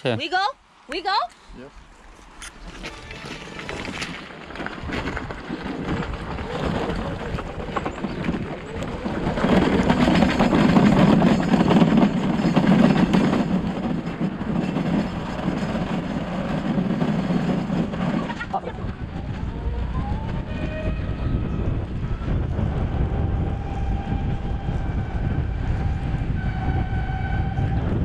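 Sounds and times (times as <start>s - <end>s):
tyres rumbling on rough surface: 2.1s - 28.0s
wind on microphone: 2.5s - 28.0s.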